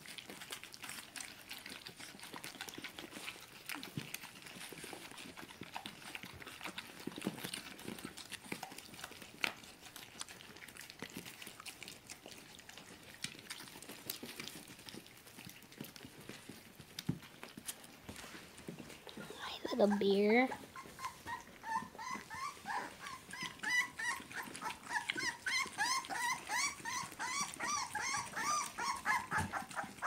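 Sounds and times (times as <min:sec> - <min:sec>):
dogs lapping wet food: 0:00.0 - 0:30.0.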